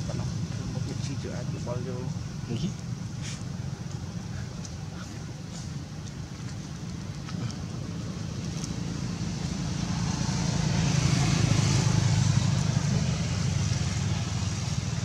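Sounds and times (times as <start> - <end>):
vehicle passing with engine rumble: 0.0 - 15.0.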